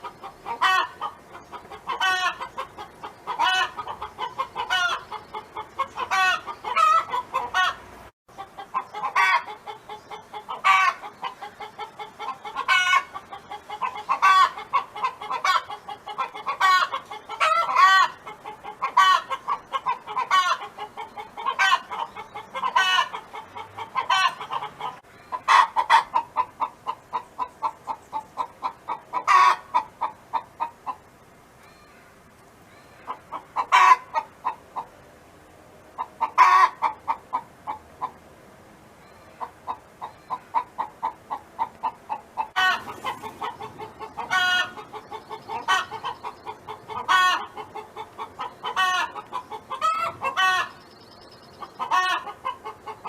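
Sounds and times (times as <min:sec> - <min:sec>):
hen clucking: 0:00.0 - 0:31.8, 0:32.7 - 0:35.0, 0:35.9 - 0:38.2, 0:39.0 - 0:53.0.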